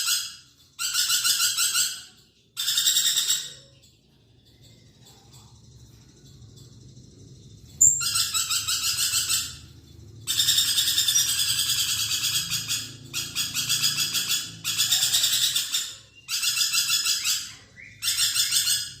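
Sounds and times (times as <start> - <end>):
parrot chattering trills: 0.0 - 19.0.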